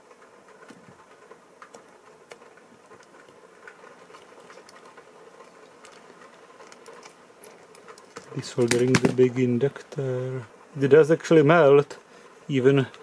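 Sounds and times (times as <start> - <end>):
faint steady hum: 0.0 - 13.0
solder flux crackling: 0.0 - 13.0.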